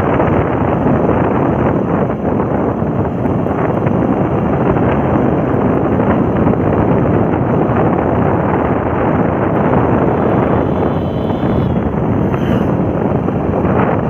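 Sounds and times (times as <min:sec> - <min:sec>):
motorcycle running: 0:00.0 - 0:14.0
road noise: 0:00.0 - 0:14.0
wind buffeting microphone: 0:00.0 - 0:14.0.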